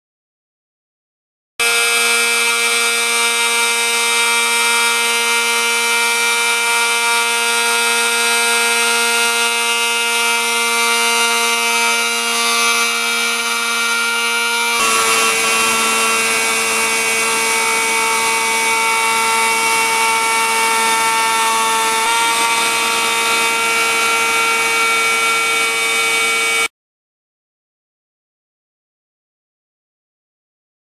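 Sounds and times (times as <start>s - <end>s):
rotary tool cutting plastic: 1.6s - 26.7s.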